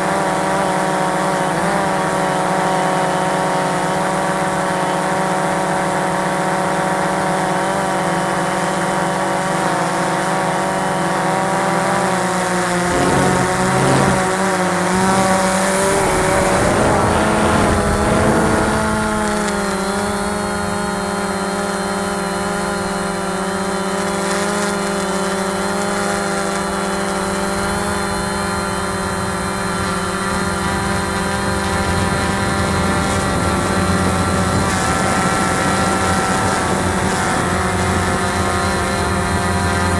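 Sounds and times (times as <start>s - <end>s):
drone motors and propellers: 0.0s - 39.9s.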